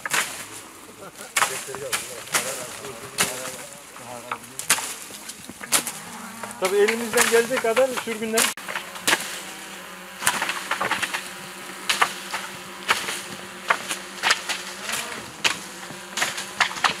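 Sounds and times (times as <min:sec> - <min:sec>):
leafy rustling: 0:00.0 - 0:17.0
wooden pole knocking branches: 0:00.0 - 0:17.0.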